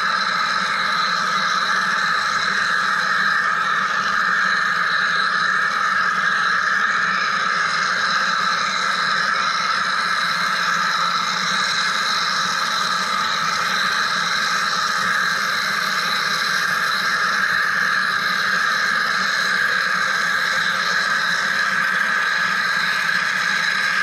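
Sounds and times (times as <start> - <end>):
machine hissing and humming: 0.0 - 24.0.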